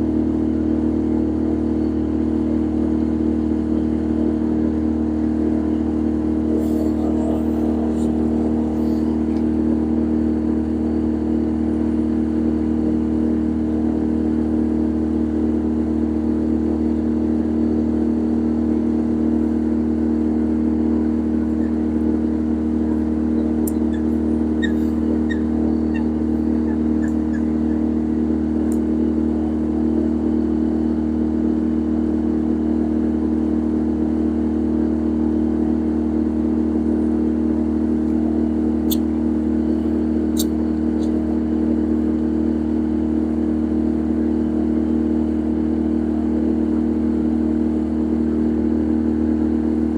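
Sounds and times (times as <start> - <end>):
boat engine drone: 0.0 - 49.9.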